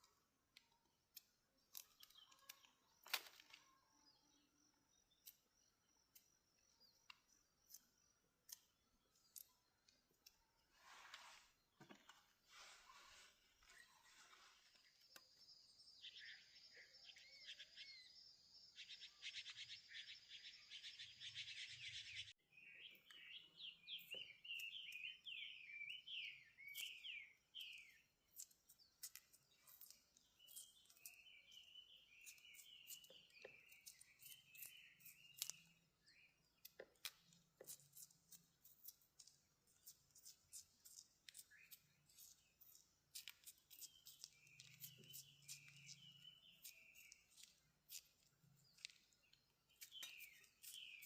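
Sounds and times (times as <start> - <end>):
bird chirps: 1.6 - 51.0.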